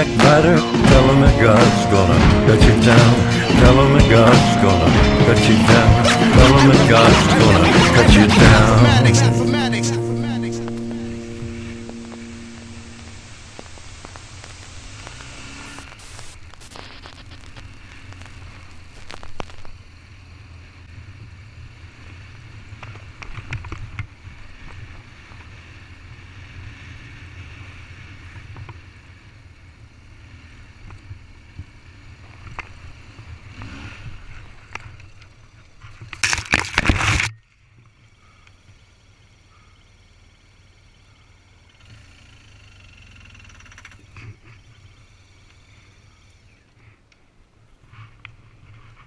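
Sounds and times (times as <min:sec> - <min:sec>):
motorcycle engine running: 0:00.0 - 0:36.1, 0:37.6 - 0:47.0.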